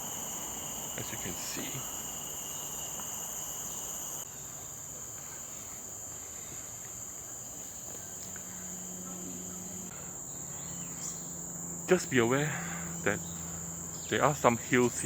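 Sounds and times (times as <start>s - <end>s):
insect chorus trilling: 0.0s - 15.0s
lower insect trill: 0.0s - 15.0s.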